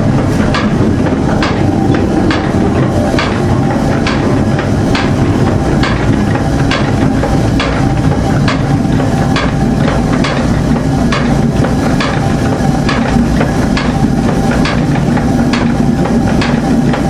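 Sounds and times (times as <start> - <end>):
mill machinery rumbling: 0.0 - 17.0
regular mill knocking: 0.0 - 17.0.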